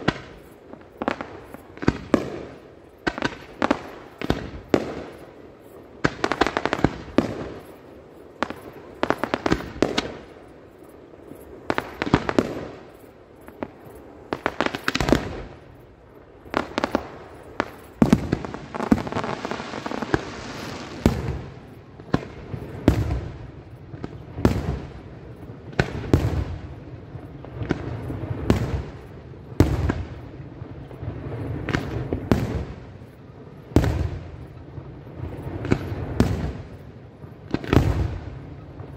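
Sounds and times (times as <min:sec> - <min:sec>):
fireworks bangs: 0:00.0 - 0:38.9
fireworks crackle: 0:00.0 - 0:38.9.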